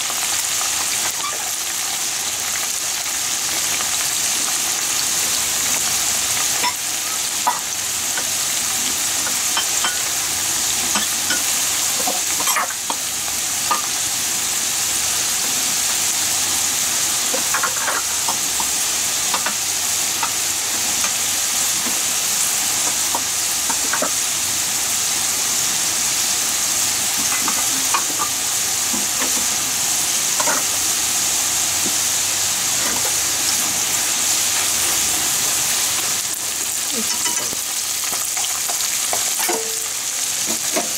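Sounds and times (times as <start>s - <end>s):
oil sizzling with small pops: 0.1s - 14.2s, 15.2s - 24.3s, 26.5s - 40.9s.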